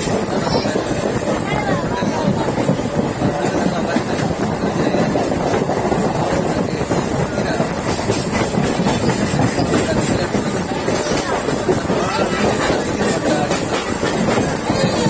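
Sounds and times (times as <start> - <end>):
train rumbling on track: 0.0 - 15.0
wheels and coach rattling: 0.0 - 15.0.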